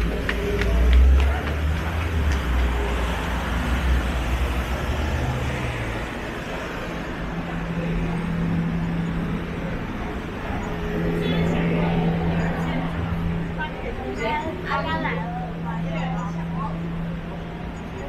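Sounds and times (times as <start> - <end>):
heavy vehicle engine rumble: 0.0 - 18.0
steady low hum: 0.0 - 18.0
street traffic: 0.0 - 18.0.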